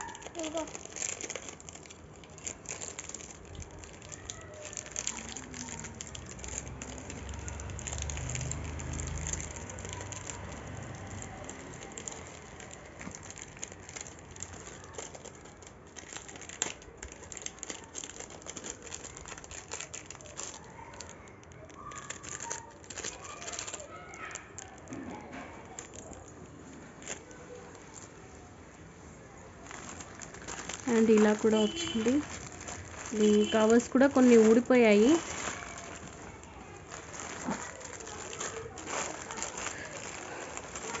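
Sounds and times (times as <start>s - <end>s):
plastic packaging crinkling: 0.0s - 41.0s.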